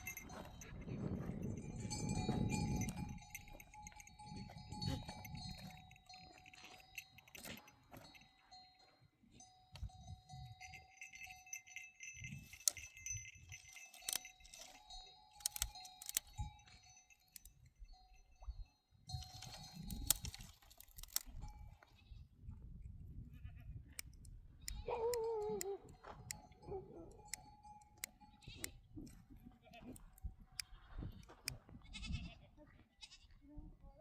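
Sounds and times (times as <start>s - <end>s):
livestock bells clinking: 0.0s - 22.0s, 24.7s - 30.4s.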